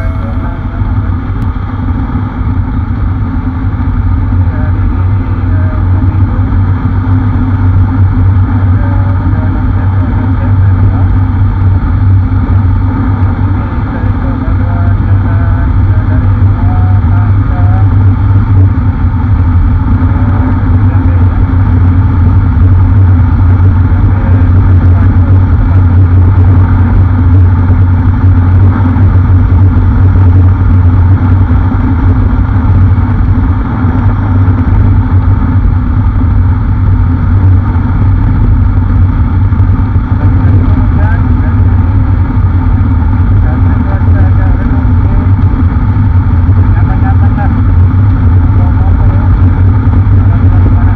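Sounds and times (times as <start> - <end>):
motorcycle engine and tyres droning: 0.0 - 50.9
wind rush over microphone: 0.0 - 50.9.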